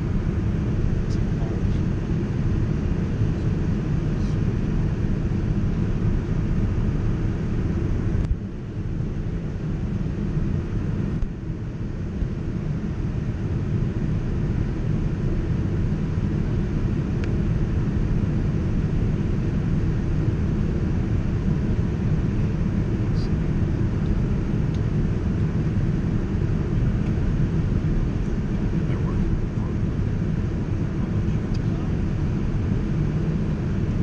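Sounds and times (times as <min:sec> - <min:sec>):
airflow and engine rumble: 0:00.0 - 0:34.0.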